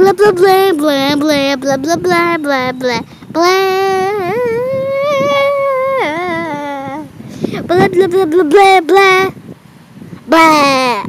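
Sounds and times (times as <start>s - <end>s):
child singing: 0.0s - 9.3s.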